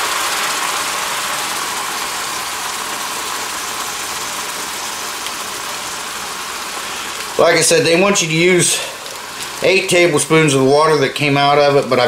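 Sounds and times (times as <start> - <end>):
noodles sizzling in a wok: 0.0 - 10.7.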